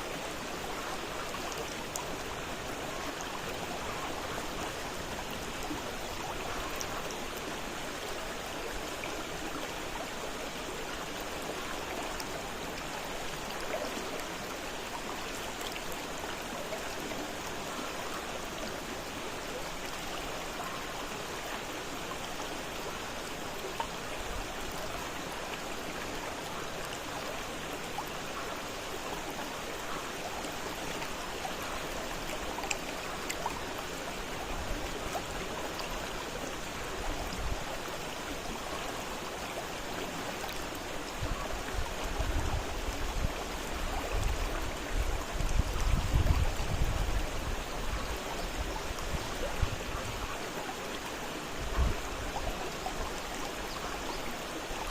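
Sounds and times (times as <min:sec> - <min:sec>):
river rushing: 0:00.0 - 0:54.9.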